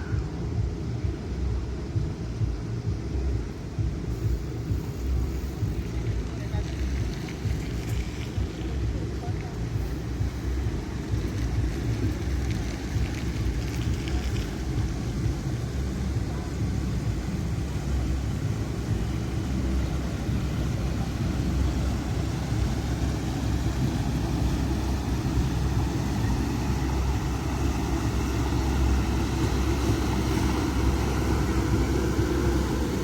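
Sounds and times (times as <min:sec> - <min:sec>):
boat engine rumbling: 0:00.0 - 0:33.0
wind buffeting microphone: 0:00.0 - 0:33.0.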